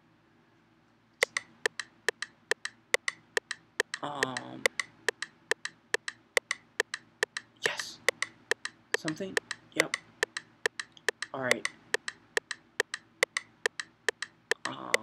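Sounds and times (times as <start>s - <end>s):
electronic woody click beat: 1.2s - 15.0s.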